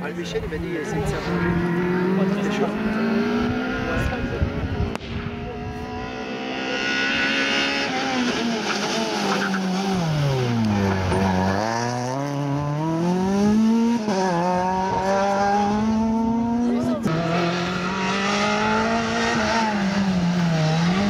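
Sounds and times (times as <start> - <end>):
car engine revving: 0.7 - 21.0.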